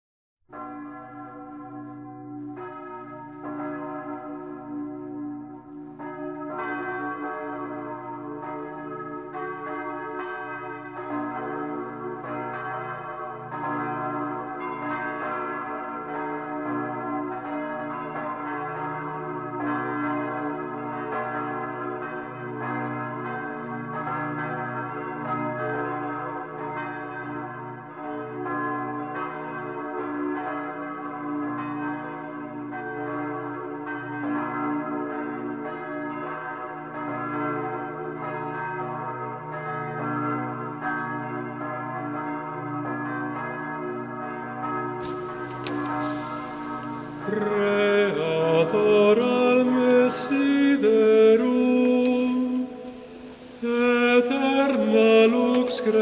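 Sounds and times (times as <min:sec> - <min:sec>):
church bells ringing: 0:00.5 - 0:56.0.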